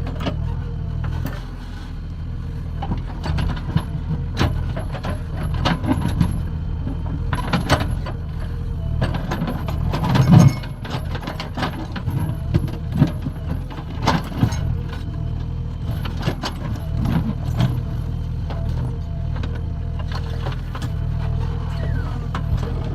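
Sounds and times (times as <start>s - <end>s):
diesel engine running under load: 0.0s - 22.9s.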